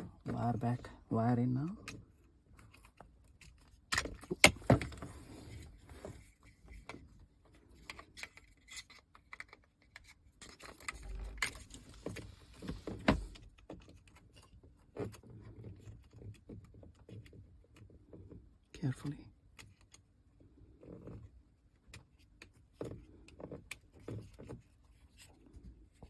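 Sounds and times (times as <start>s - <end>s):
plastic parts clicking and rattling: 1.6s - 5.1s, 6.2s - 18.5s, 19.4s - 26.0s.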